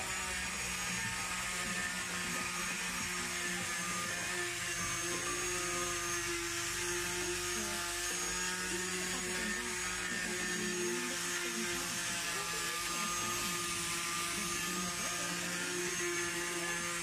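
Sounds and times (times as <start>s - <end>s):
angle grinder sanding wood: 0.0s - 17.0s.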